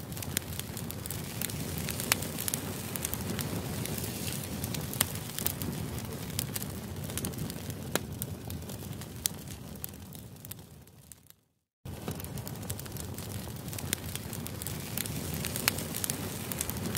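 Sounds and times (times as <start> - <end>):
sharp pops from fire: 0.0 - 16.9
wood fire crackling: 0.0 - 16.9.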